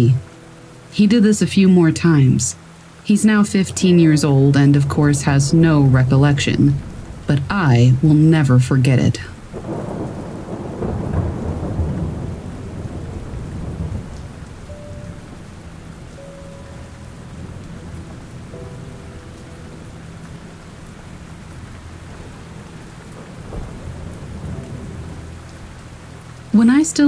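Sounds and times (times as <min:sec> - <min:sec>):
steady rain: 0:00.0 - 0:27.0
thunder rumbling: 0:00.0 - 0:27.0.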